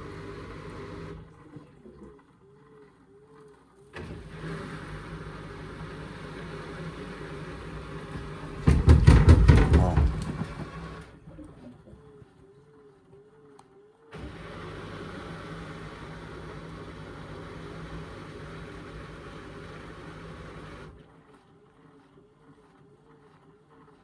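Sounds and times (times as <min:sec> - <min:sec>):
washing machine motor whine: 0:00.0 - 0:03.4, 0:04.0 - 0:12.0, 0:12.7 - 0:23.4
washing machine spin hum: 0:00.0 - 0:03.4, 0:04.0 - 0:12.1, 0:12.7 - 0:24.0.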